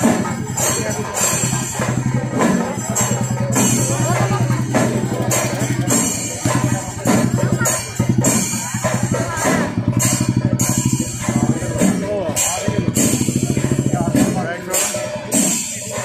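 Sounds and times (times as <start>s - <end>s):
cymbals clashing: 0.0s - 16.0s
fast continuous drumming: 0.0s - 16.0s.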